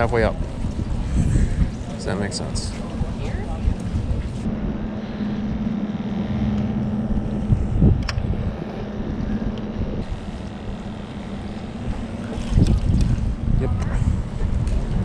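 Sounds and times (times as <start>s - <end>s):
low engine drone: 0.0s - 15.0s
wind buffeting microphone: 0.0s - 15.0s.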